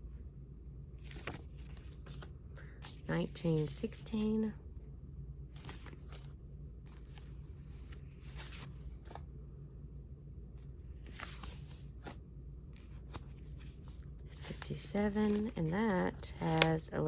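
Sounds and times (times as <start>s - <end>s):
low room hum: 0.0s - 17.0s
soft paper rustles: 1.0s - 4.6s, 5.5s - 9.3s, 10.6s - 17.0s.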